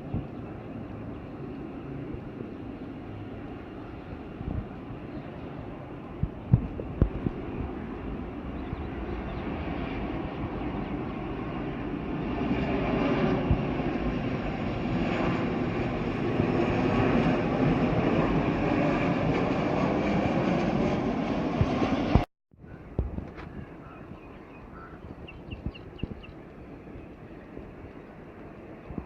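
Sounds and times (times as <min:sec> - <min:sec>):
jet airliner engines rushing: 0:00.0 - 0:29.0.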